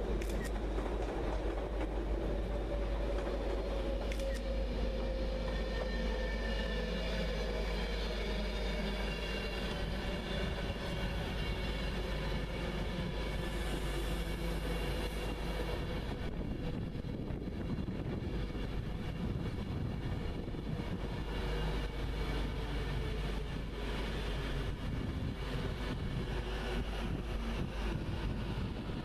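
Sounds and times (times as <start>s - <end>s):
steady train whine: 0.0s - 29.0s
train wheels rolling on rail: 0.0s - 29.0s.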